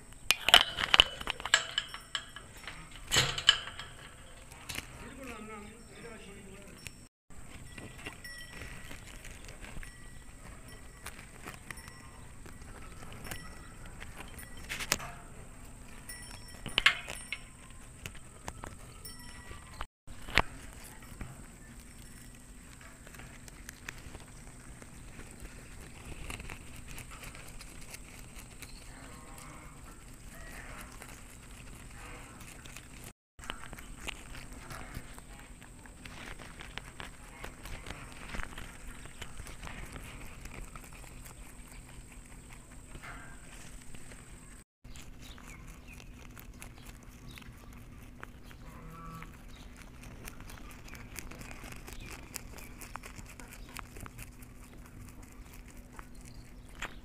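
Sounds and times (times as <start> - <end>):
rabbits chewing leaves: 0.0 - 57.0.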